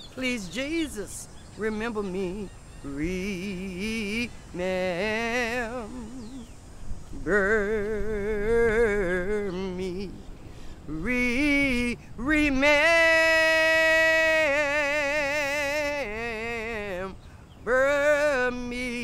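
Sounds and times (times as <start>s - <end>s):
person singing gospel song: 0.0s - 19.0s.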